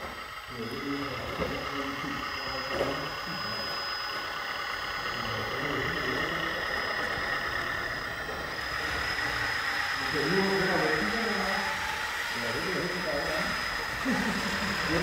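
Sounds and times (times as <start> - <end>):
diesel engine idling: 0.0 - 15.0
high-pitched whine: 0.0 - 15.0.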